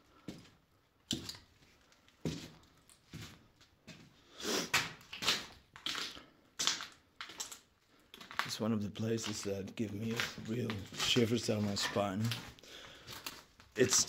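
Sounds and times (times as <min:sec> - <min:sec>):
footsteps crunching over rubble: 0:00.1 - 0:14.0.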